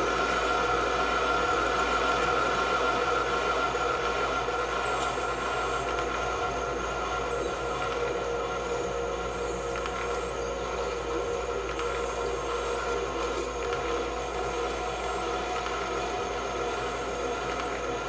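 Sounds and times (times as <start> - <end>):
electronic drone: 0.0 - 18.0.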